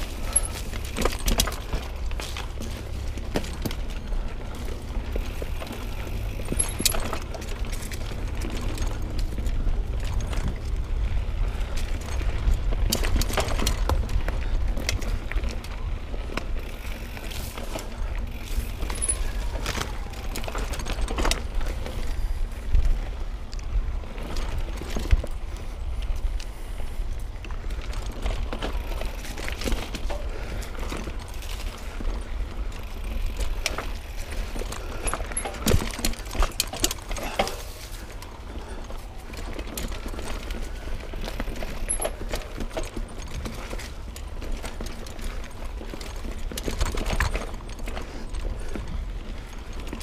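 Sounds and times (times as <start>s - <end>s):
bike rattling and clunking: 0.0s - 50.0s
bike tyres rolling on trail: 0.0s - 50.0s
steady low rumble: 0.0s - 50.0s.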